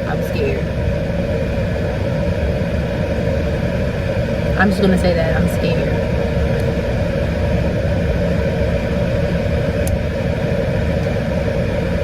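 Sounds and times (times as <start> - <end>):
car engine rumble inside cabin: 0.0 - 12.0
road noise: 0.0 - 12.0.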